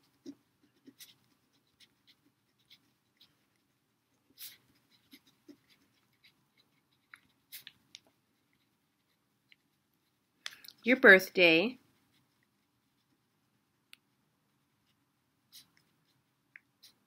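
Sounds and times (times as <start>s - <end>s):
pen scratching on paper: 0.0s - 10.3s, 11.1s - 13.5s, 14.6s - 17.0s.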